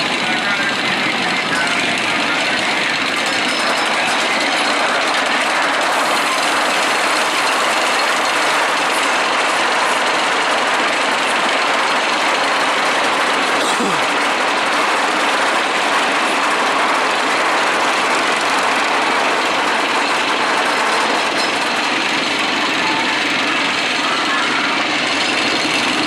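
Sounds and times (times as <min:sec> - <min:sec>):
roller coaster train rushing: 0:00.0 - 0:26.0.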